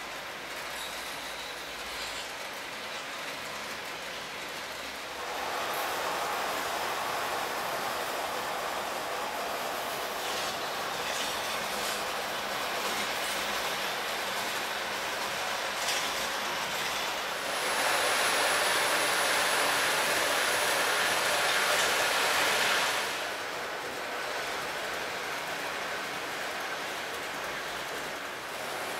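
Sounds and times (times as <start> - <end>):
model train running hiss: 0.0 - 28.9
wheels clicking over rail joints: 0.0 - 28.9.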